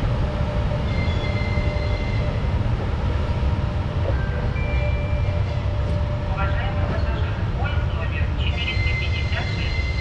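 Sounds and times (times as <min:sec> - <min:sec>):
electric locomotive rumbling: 0:00.0 - 0:10.0.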